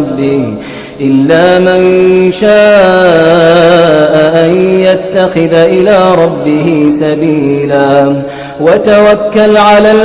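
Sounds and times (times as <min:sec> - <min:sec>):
man reciting melodically: 0:00.0 - 0:10.0.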